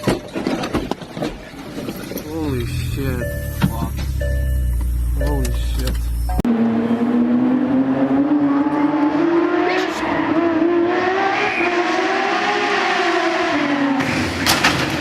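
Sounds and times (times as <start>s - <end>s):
car engine at high revs: 2.4s - 15.0s.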